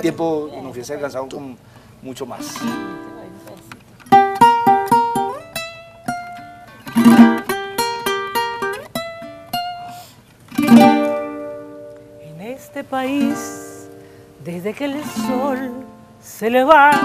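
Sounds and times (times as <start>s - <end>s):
plucked string melody: 2.4s - 17.0s
strummed chords: 2.4s - 17.0s.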